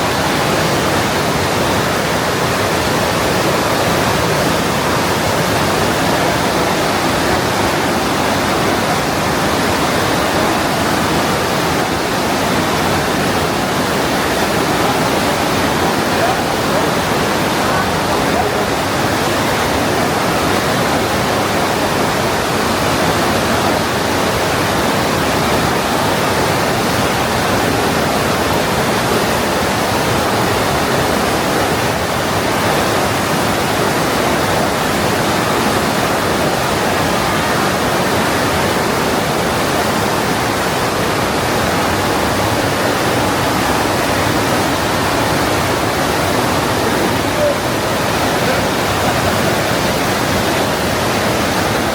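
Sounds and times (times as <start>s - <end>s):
mountain river rushing through gorge: 0.0s - 51.9s.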